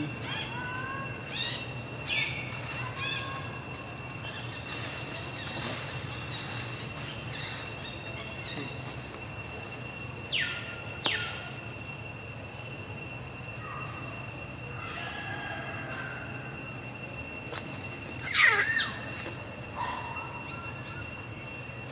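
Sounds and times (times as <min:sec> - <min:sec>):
falling whistle-like animal calls: 0:00.0 - 0:05.8, 0:10.0 - 0:21.8
high insect drone: 0:00.0 - 0:21.9.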